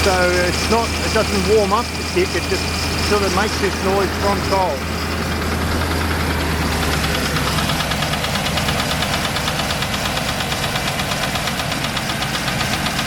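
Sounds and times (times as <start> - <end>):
engine idling with rhythmic knock: 0.0 - 13.0.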